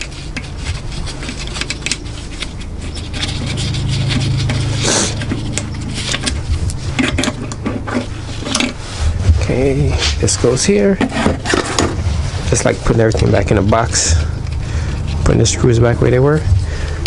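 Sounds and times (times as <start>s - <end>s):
metal clicks and scrapes: 0.0s - 17.0s
steady low hum: 0.0s - 17.0s.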